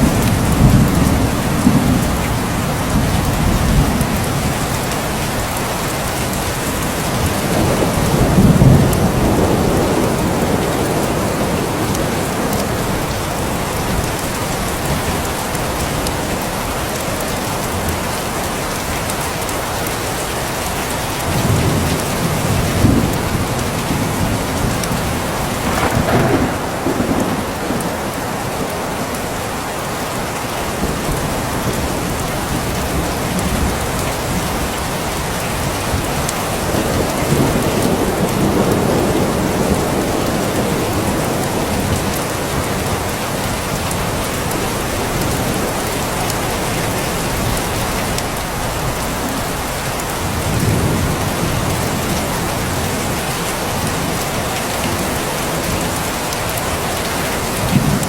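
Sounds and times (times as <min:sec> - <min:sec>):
thunder rumbling: 0:00.0 - 0:17.1, 0:21.3 - 0:29.7, 0:30.7 - 0:58.0
steady rain hissing: 0:00.0 - 0:58.0.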